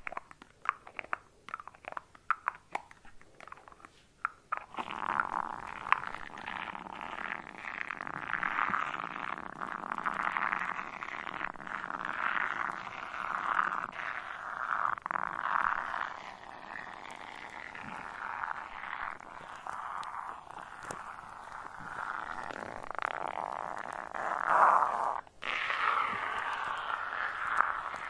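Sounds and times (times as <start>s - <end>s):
shaving foam fizzing crackle: 3.5s - 28.0s.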